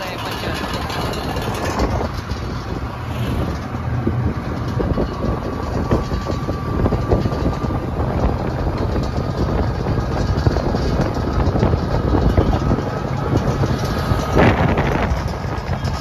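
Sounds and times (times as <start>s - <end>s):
rattles and knocks: 0.0s - 16.0s
vehicle engine hum: 0.0s - 16.0s.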